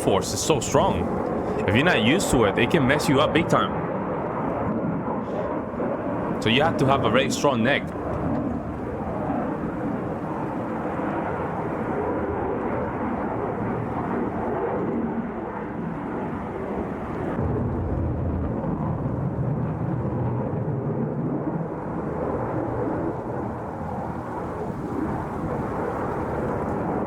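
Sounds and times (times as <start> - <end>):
jet engines in flight: 0.0 - 27.0.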